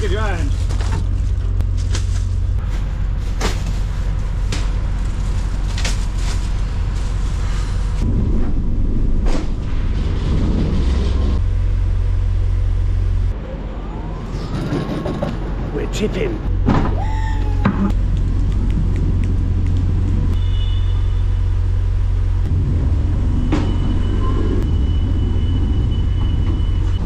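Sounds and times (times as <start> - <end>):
refrigeration unit droning: 0.0 - 27.0.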